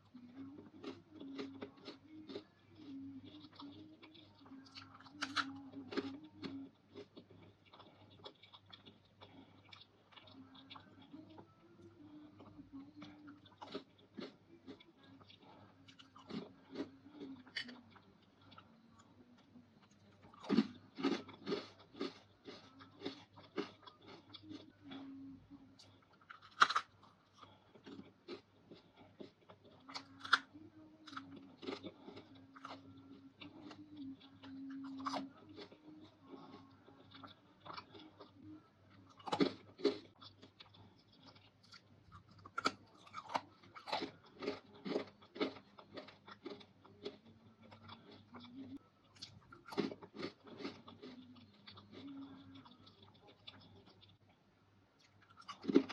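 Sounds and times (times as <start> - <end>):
crunchy chewing: 0.0 - 54.4, 55.0 - 55.9.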